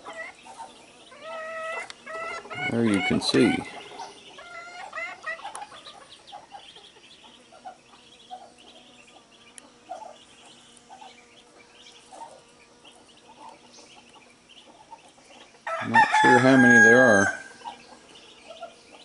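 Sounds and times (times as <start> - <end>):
chicks peeping: 0.0 - 19.0
faint steady hum: 0.0 - 19.0
hen clucking: 0.0 - 19.0.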